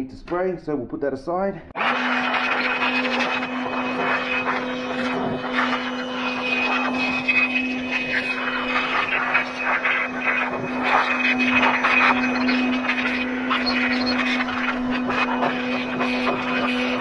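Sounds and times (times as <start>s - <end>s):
electric air blower running: 1.8s - 17.0s.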